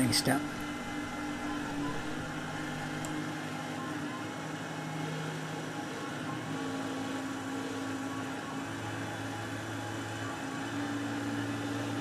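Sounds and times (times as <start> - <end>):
lathe machine hum: 0.0 - 12.0.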